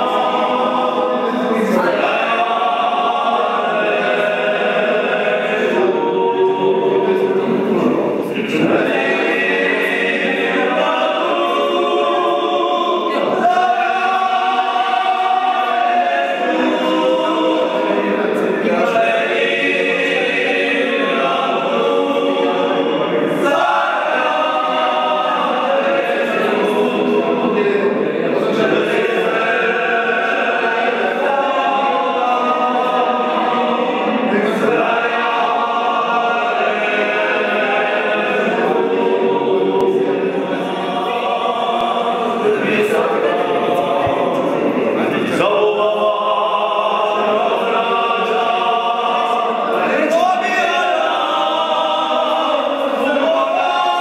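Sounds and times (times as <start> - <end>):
group singing without instruments: 0.0 - 54.0.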